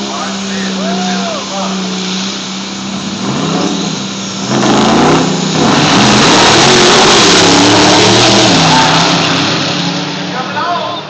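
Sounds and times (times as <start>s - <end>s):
diesel trucks at full throttle: 0.0s - 11.0s.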